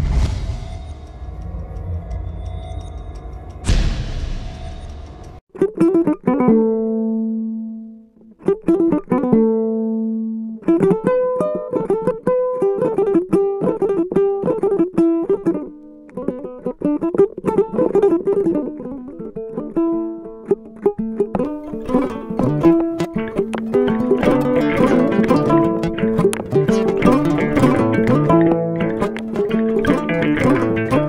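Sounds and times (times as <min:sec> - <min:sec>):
plucked lutes melody: 0:05.5 - 0:31.0.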